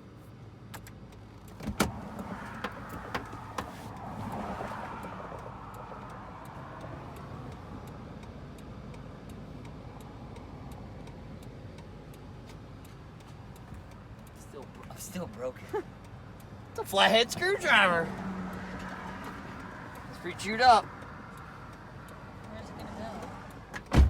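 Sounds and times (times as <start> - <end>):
rushing road noise: 0.0 - 24.0.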